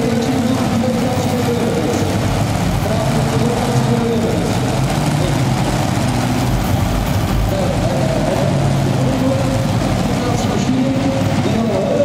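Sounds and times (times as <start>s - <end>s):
tractor engines idling: 0.0s - 12.0s.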